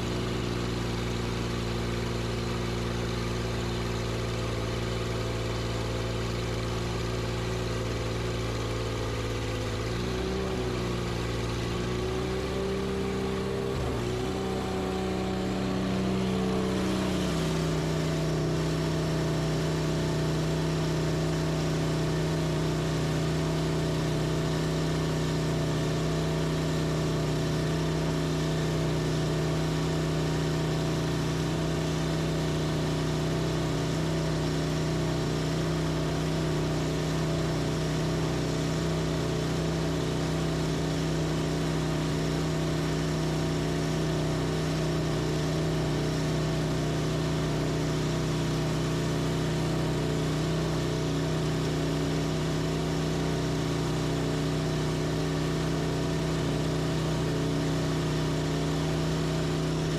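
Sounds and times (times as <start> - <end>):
sawmill engine running steadily: 0.0 - 59.9.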